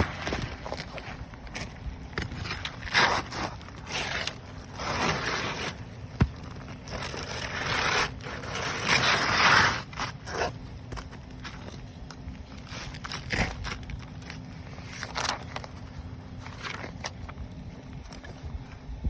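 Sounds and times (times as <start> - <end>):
roof shingles scraping and crackling: 0.0 - 17.3.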